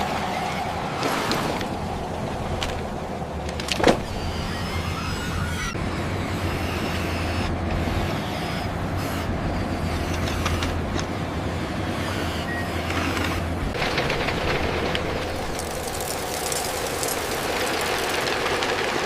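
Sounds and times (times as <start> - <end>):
construction machinery engines: 0.0 - 19.0.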